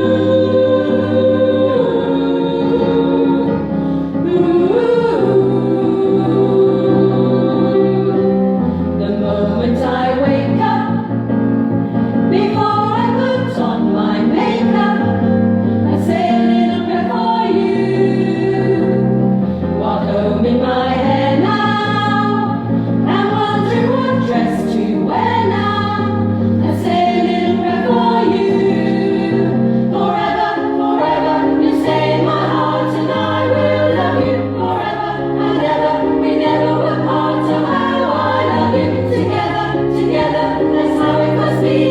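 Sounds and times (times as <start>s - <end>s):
women's choir singing: 0.0s - 11.2s, 12.3s - 41.9s.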